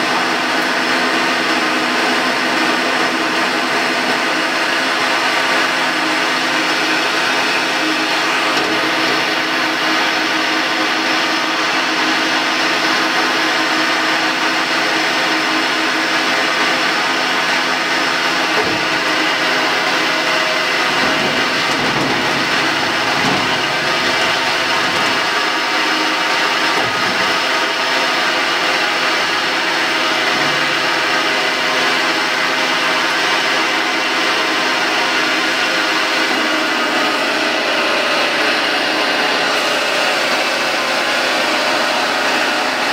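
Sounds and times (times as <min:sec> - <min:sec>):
grinder machine droning idle: 0:00.0 - 0:42.9.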